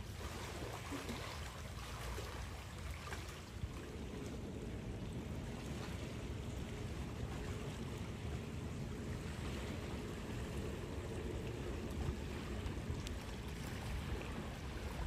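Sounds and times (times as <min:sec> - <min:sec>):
low even rumble: 0:00.0 - 0:15.0
small sea waves lapping: 0:00.0 - 0:15.0.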